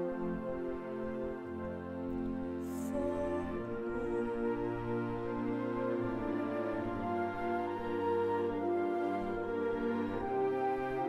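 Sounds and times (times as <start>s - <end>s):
wind band playing soft chords: 0.0s - 11.0s.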